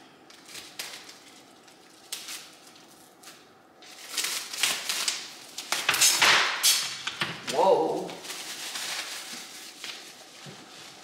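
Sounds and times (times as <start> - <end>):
items rustling and scraping: 0.3 - 11.0.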